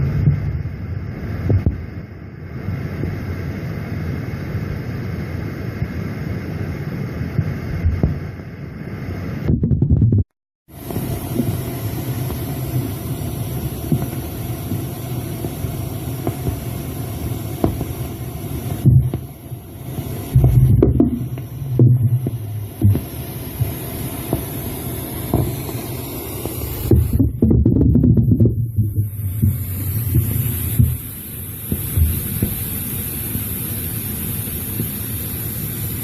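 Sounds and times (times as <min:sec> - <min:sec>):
low rumbling throbbing hum: 0:00.0 - 0:35.6.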